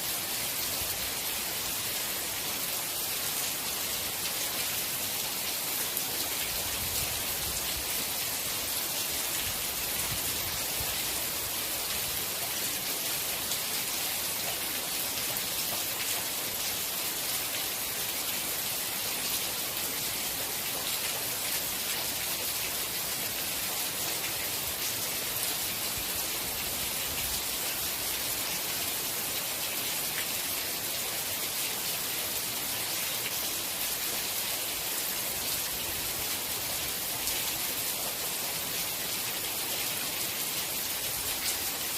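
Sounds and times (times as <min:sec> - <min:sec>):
steady rain pattering: 0:00.0 - 0:41.9.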